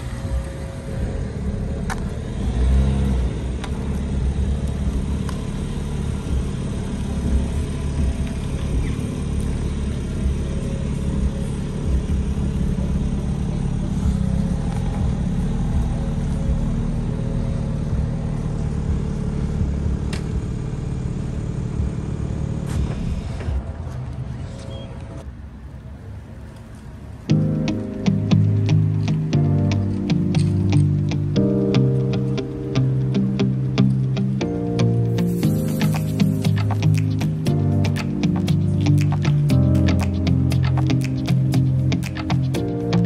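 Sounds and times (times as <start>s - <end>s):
car engine idling: 0.0s - 24.5s, 27.3s - 43.0s.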